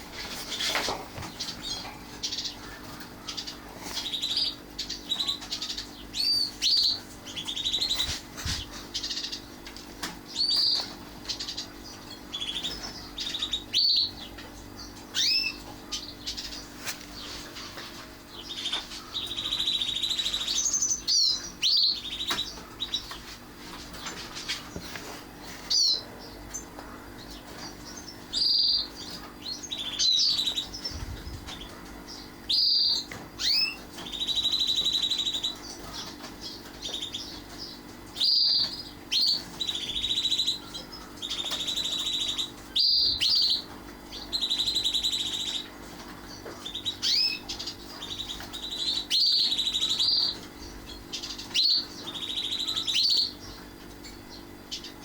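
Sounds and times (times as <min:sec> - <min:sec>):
canary chirping and trilling: 0:00.0 - 0:55.0.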